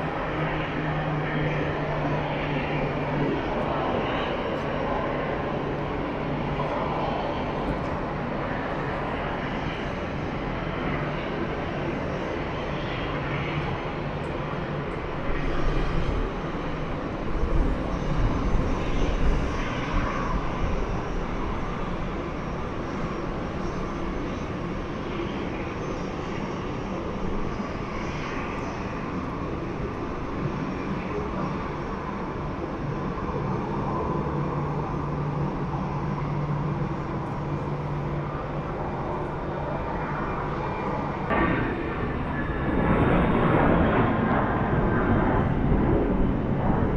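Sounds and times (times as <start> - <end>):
airliner engines running: 0.0 - 46.9.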